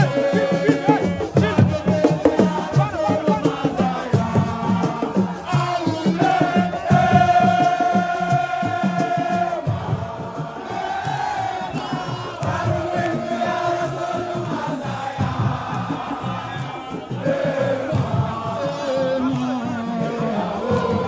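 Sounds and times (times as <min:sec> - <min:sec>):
crowd chanting and singing: 0:00.0 - 0:21.0
fast rhythmic drumming: 0:00.0 - 0:21.0.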